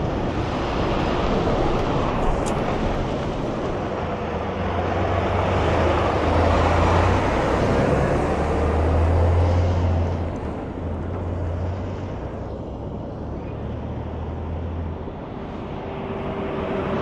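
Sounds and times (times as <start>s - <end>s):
truck engine pulling away: 0.0s - 15.0s.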